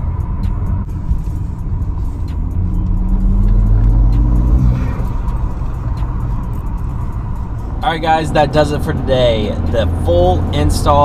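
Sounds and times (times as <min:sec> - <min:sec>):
car engine pulling hard: 0:00.0 - 0:11.0.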